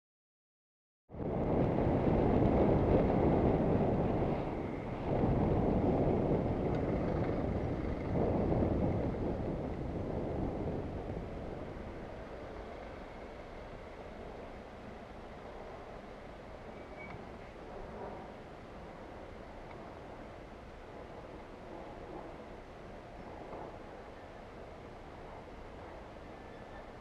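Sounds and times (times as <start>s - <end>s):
wind buffeting microphone: 1.1s - 27.0s
traffic and road noise: 1.4s - 27.0s.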